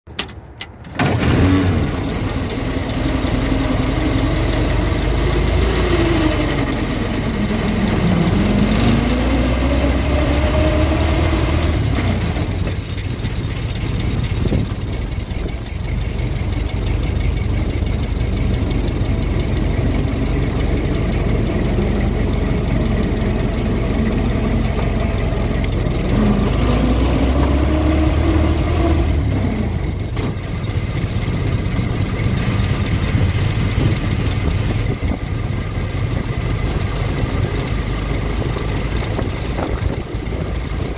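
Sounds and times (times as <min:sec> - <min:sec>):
car engine running: 0:01.0 - 0:40.9.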